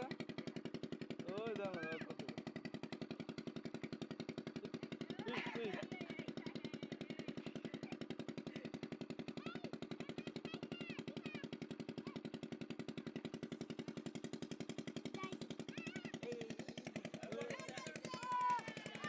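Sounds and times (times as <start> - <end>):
small engine running with knock: 0.0 - 19.0.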